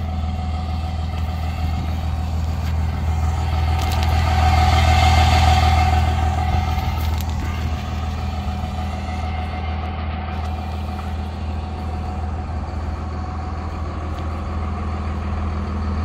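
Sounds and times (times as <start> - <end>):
large vehicle engine idling: 0.0 - 16.0.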